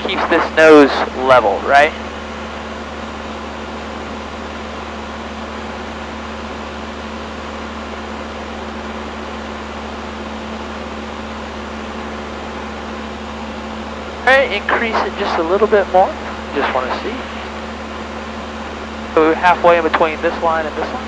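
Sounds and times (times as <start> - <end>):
airplane engine droning: 0.0 - 21.0.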